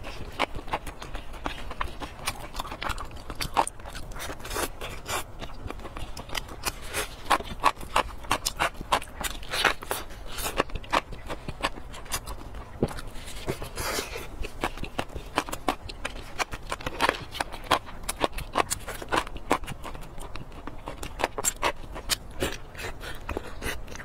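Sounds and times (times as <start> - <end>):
wet chewing and lip-smacking: 0.0 - 24.0.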